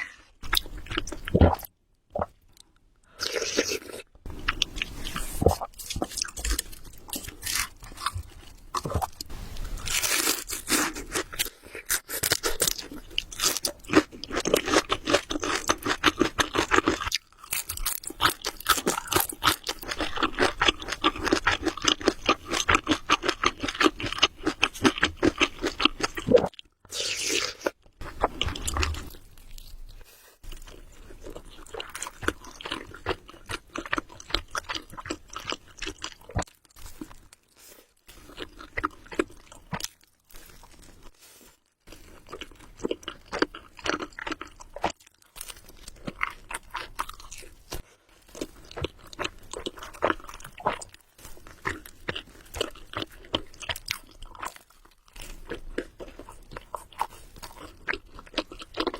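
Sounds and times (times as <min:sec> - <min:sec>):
person chewing noodles: 0:00.0 - 0:58.9.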